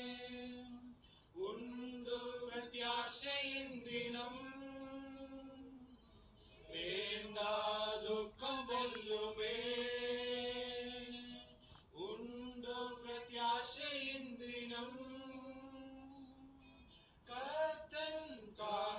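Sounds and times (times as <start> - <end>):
men singing a hymn: 0.0 - 5.8, 6.6 - 16.6, 17.3 - 18.9.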